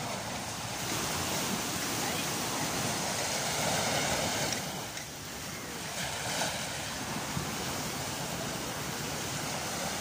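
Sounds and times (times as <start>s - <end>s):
surf rushing: 0.0s - 10.0s
wind: 0.0s - 10.0s.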